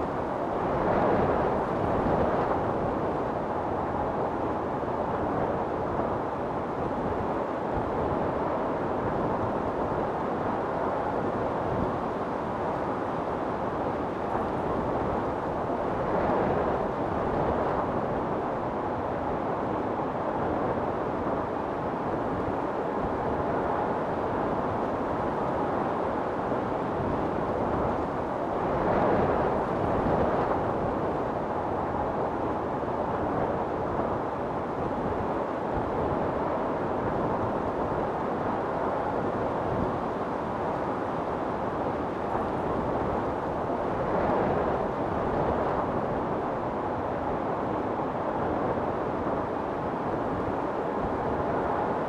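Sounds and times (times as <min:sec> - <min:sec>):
wind storm blowing: 0:00.0 - 0:52.0.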